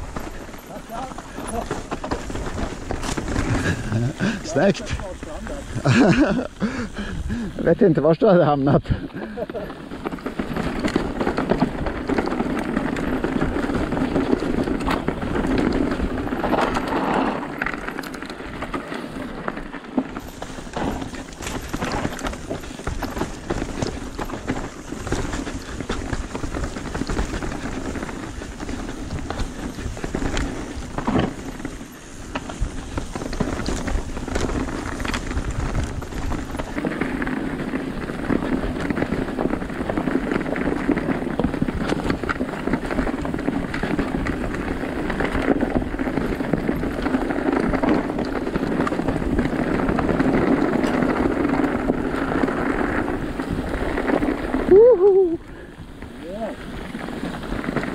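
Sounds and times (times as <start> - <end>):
bike knocks and clatter: 0.0 - 6.5, 8.9 - 54.5
bike tyres crunching over rocks: 0.0 - 57.9
steady rushing noise: 0.0 - 57.9.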